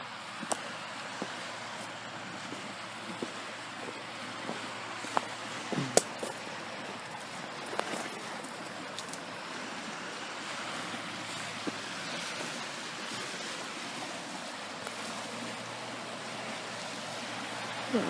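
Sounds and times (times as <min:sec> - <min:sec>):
fast river rushing: 0:00.0 - 0:18.0.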